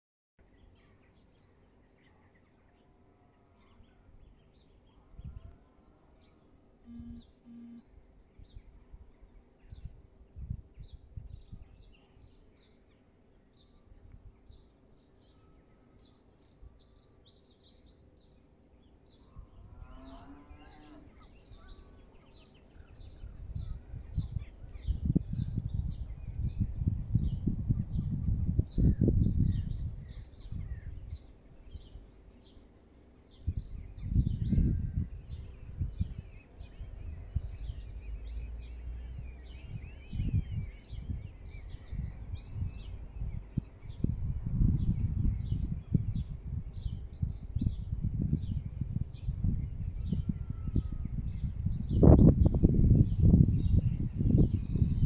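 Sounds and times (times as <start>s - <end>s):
small birds chirping: 0.4s - 55.0s.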